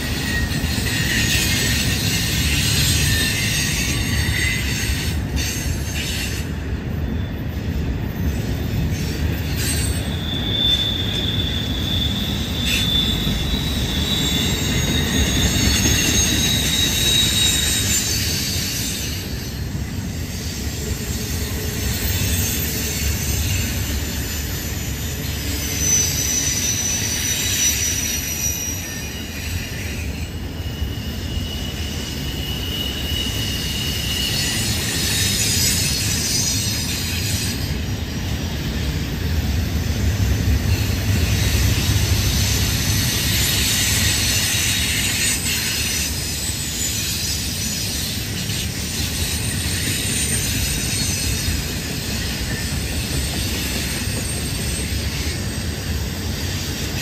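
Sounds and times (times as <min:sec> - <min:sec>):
freight train wheels rumbling: 0:00.0 - 0:57.0
high wheel squeals: 0:00.0 - 0:57.0.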